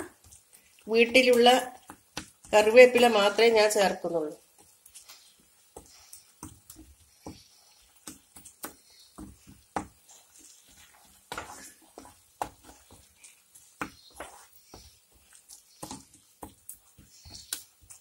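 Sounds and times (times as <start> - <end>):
spatula stirring thick sauce in pan: 0.0 - 18.0.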